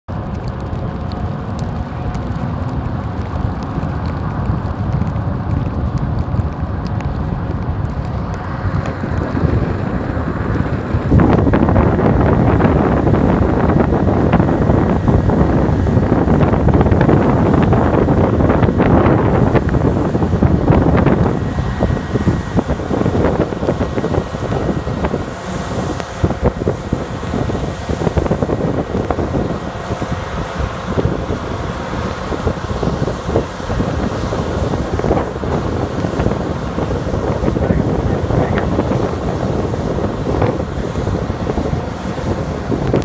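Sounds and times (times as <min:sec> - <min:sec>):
wind buffeting microphone: 0:00.1 - 0:43.0.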